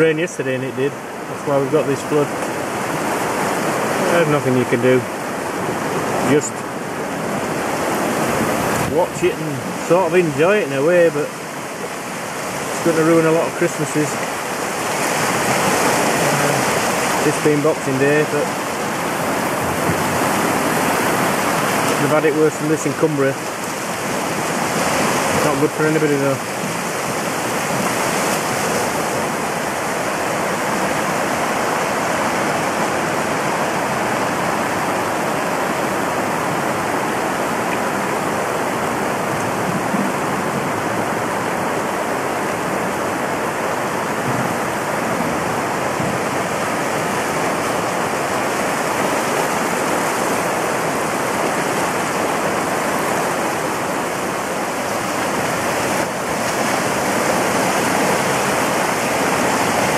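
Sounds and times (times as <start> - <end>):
river rushing in flood: 0.0 - 59.9.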